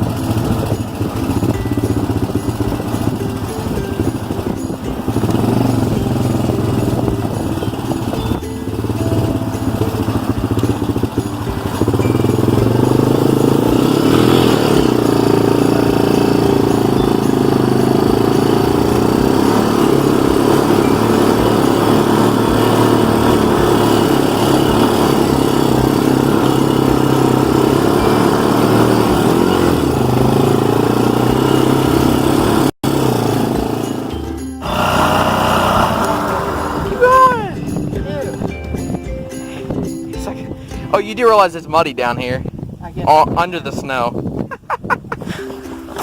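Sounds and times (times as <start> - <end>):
vehicle engine at high revs: 0.0 - 37.9.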